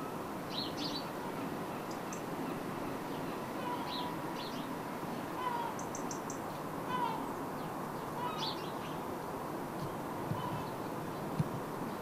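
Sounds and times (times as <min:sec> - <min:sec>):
low outdoor background noise: 0:00.0 - 0:12.0
small birds chirping: 0:00.5 - 0:09.1, 0:09.8 - 0:12.0.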